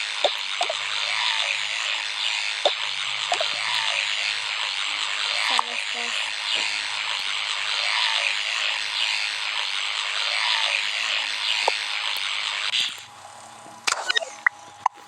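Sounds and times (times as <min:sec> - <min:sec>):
toothbrush scrubbing teeth: 0:00.0 - 0:13.1.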